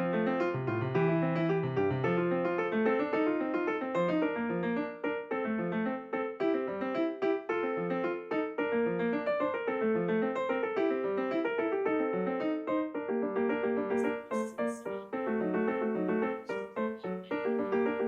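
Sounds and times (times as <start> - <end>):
ragtime piano piece: 0.0 - 18.0.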